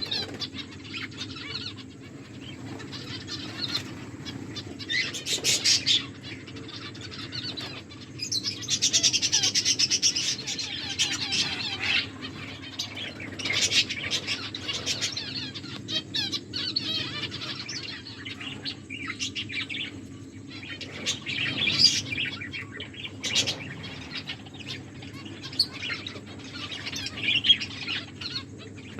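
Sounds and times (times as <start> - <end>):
finches chirping: 0.0 - 28.9.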